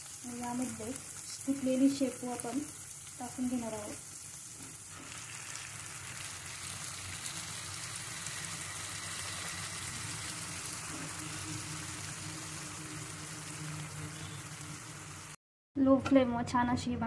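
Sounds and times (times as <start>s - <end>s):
hot oil sizzling in a pan: 0.0s - 15.4s.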